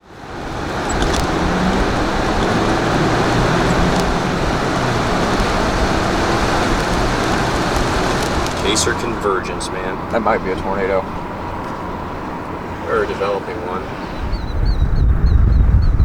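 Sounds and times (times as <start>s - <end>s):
vehicle road and engine noise: 0.0s - 16.0s.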